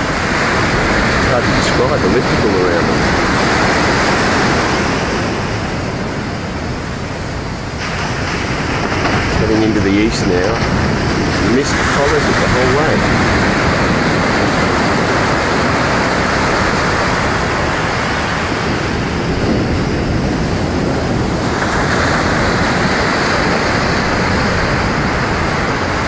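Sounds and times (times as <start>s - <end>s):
loud rushing noise: 0.0s - 26.0s.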